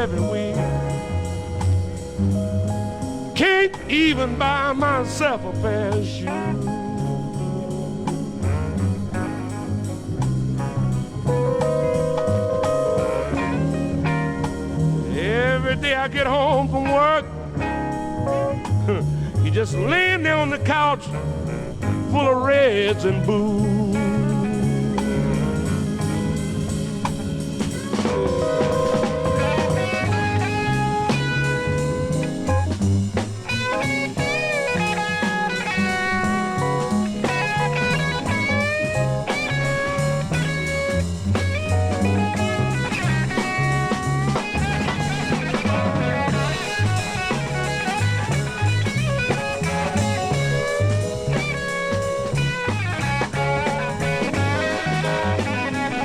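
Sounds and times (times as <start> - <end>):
bass line: 0.0 - 56.0
blues band instrumental: 0.0 - 56.0
drum kit: 0.0 - 56.0
guitar lines: 0.0 - 56.0.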